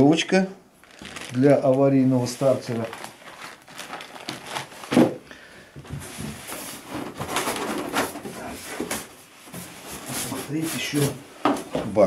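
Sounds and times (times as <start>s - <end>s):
cardboard and plastic rustling: 0.8s - 12.0s.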